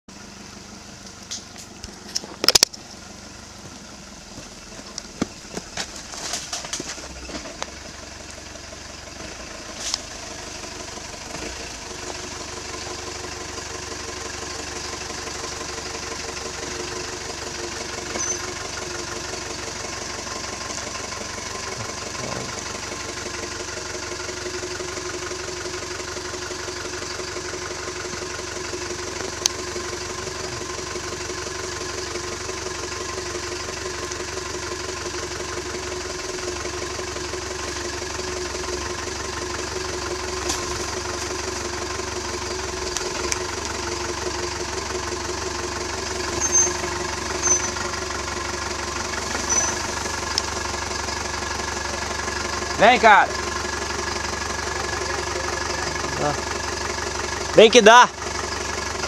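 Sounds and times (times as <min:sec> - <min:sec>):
truck engine at low revs: 0:00.0 - 0:59.0.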